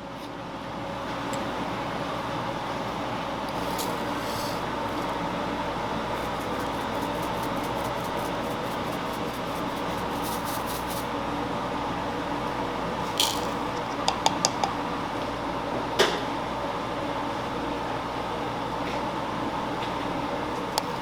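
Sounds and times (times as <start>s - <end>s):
fan humming: 0.0s - 21.0s.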